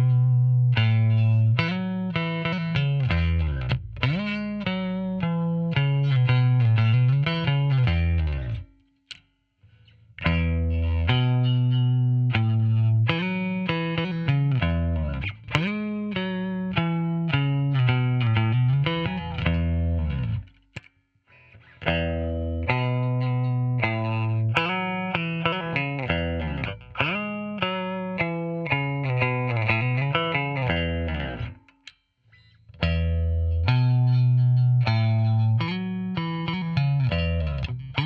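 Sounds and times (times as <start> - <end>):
bass guitar melodic line: 0.0 - 8.8, 10.2 - 20.7, 21.8 - 31.7, 32.7 - 38.0.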